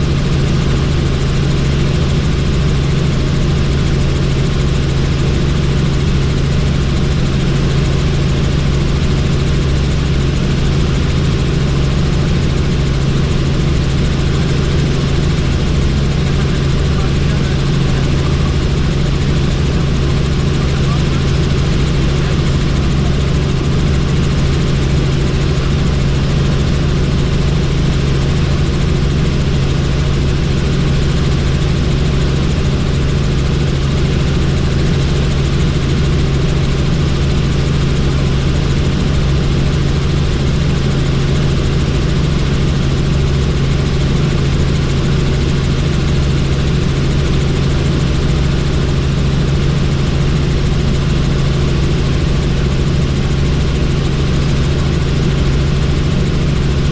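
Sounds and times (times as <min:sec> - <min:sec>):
helicopter rotor and engine noise: 0:00.0 - 0:56.9.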